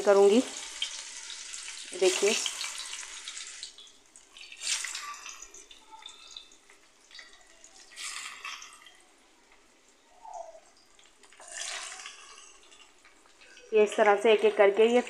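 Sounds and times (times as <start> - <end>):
oil sizzling in a wok: 0.0 - 15.0.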